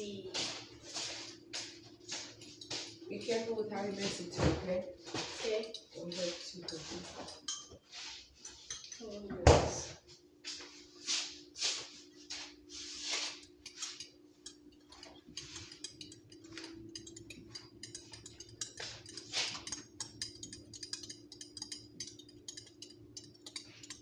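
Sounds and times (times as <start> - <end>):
utensil stirring batter in bowl: 0.4 - 9.2, 10.4 - 24.0.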